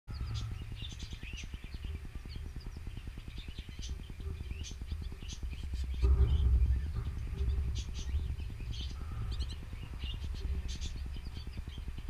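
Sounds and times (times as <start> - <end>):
canaries chirping: 0.1 - 12.0
steady low rumble: 0.1 - 12.0.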